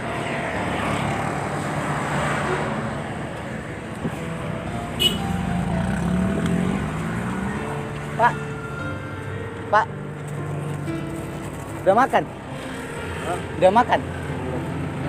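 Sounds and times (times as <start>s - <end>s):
cars passing on busy road: 0.0s - 15.0s.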